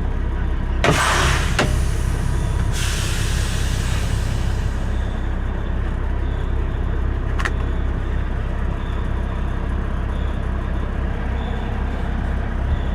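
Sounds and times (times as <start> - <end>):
diesel truck engine rumbling: 0.0 - 12.9.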